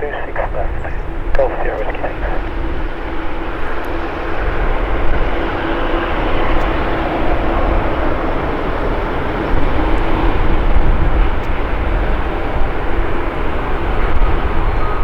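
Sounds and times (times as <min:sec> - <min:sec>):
jet engines rumbling: 0:00.0 - 0:13.7.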